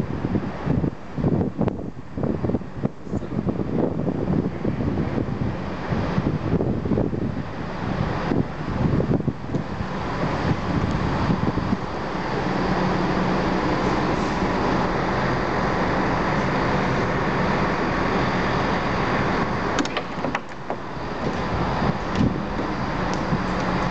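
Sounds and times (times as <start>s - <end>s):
diesel train engine humming: 0.0s - 23.9s.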